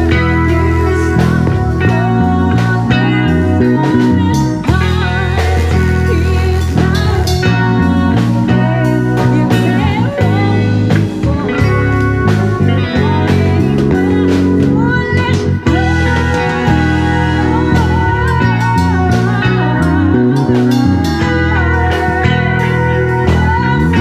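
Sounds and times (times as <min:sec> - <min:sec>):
bass: 0:00.0 - 0:24.0
drums: 0:00.0 - 0:24.0
electric guitar bent notes: 0:00.0 - 0:24.0.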